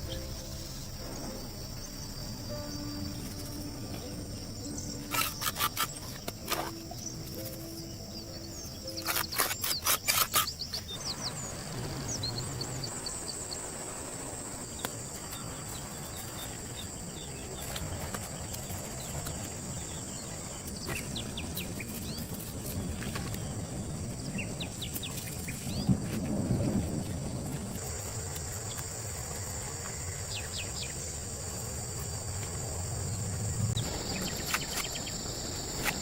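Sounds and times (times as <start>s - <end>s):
high insect buzz: 0.0s - 36.0s.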